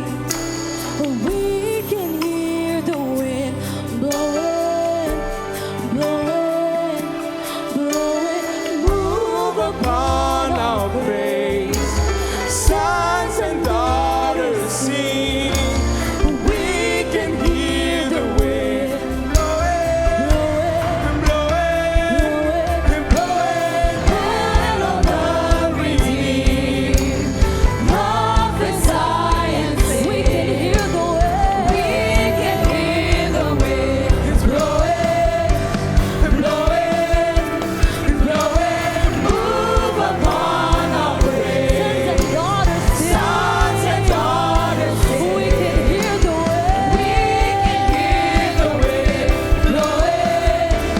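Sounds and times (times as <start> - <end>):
gospel singing with band: 0.0 - 50.9
steady drum beat: 7.9 - 50.9.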